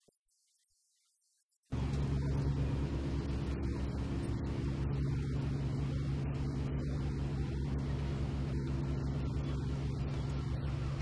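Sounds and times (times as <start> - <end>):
engine droning: 1.7 - 11.0.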